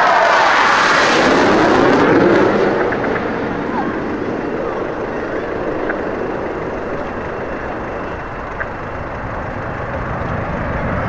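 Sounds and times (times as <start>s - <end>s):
deep jet engine noise: 0.0s - 11.0s.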